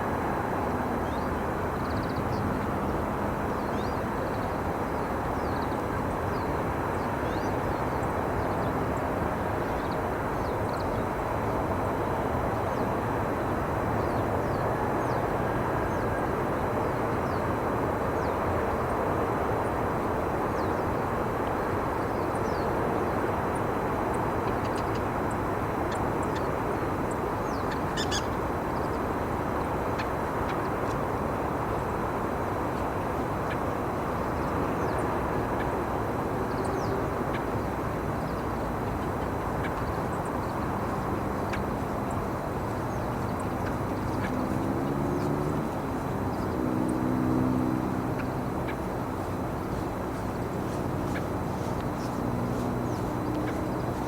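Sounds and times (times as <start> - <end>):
rumbling background noise: 0.0 - 54.0.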